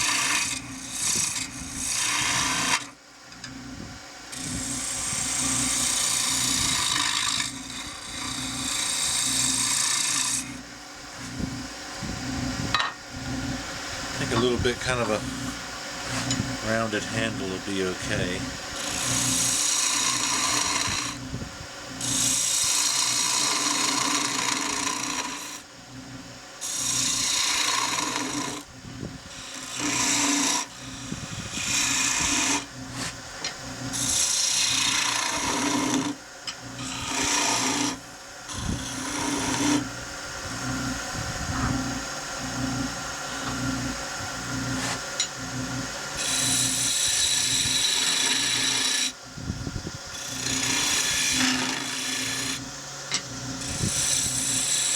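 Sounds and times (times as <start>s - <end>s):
chisel cutting wood on lathe: 0.0s - 21.3s, 21.9s - 28.7s, 29.3s - 49.3s, 50.0s - 54.9s
lathe humming: 0.0s - 54.9s.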